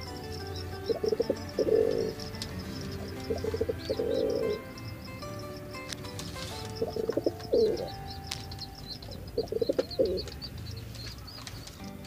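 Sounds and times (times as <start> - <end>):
pigeons cooing: 0.0 - 10.5
high-pitched chirping: 0.0 - 12.0.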